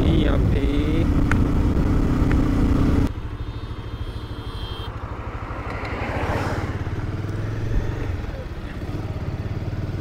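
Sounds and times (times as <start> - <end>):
motorcycle engine: 0.0 - 10.0.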